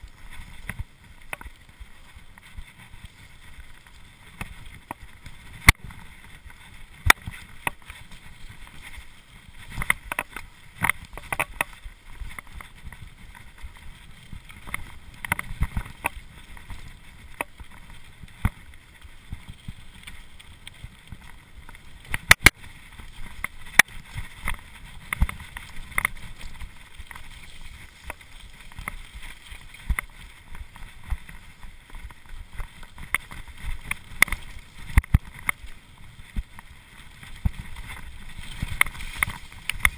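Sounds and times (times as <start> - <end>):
bike rattling and knocking: 0.0 - 39.9
bike tyres rumbling on dirt: 0.0 - 39.9.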